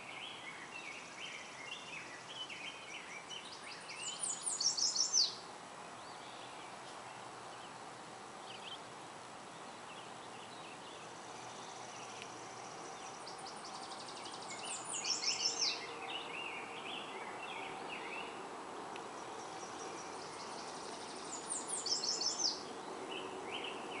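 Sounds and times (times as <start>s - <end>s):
birds chirping faintly: 0.0s - 24.0s
distant traffic hum: 0.0s - 24.0s
songbird trill: 0.0s - 24.0s.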